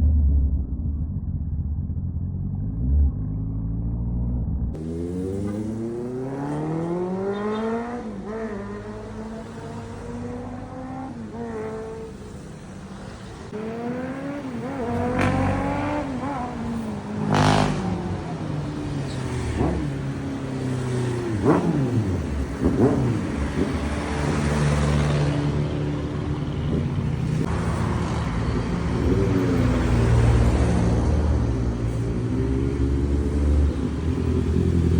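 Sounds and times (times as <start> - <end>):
motorcycle engine accelerating: 0.0 - 12.1, 13.5 - 34.9.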